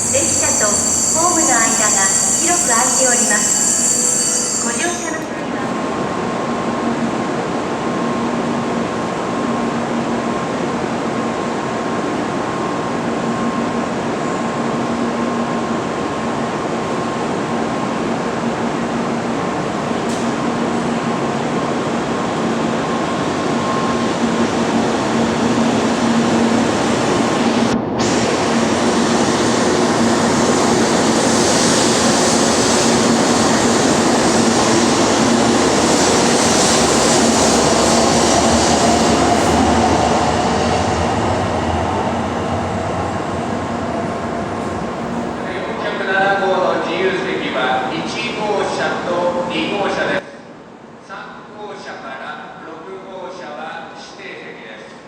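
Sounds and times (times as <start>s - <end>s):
electric train rumbling: 0.0s - 51.0s.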